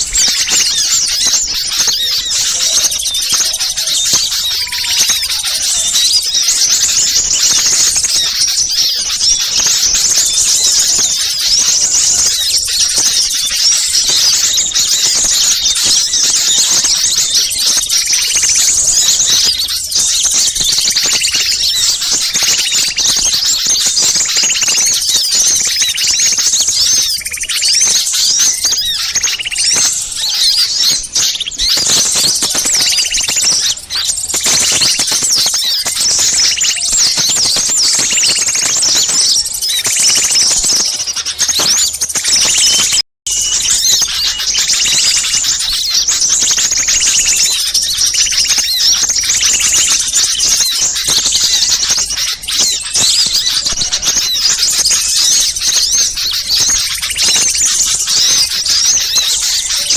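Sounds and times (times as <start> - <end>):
songbirds chattering and chirping: 0.0 - 59.9.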